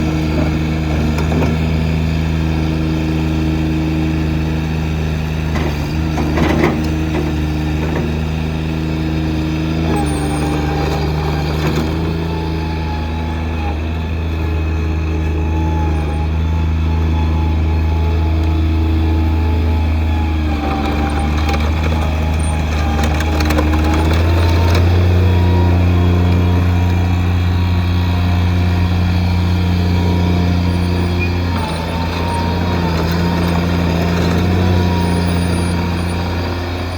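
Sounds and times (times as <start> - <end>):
loader engine running: 0.0 - 36.9.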